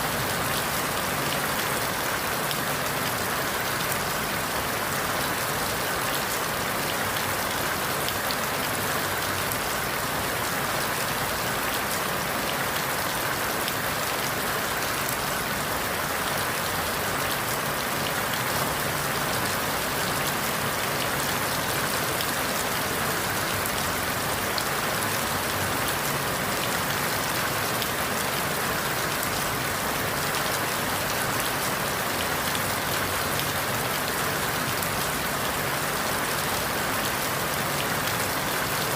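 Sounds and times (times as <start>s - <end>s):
rain falling through leaves: 0.0s - 38.9s.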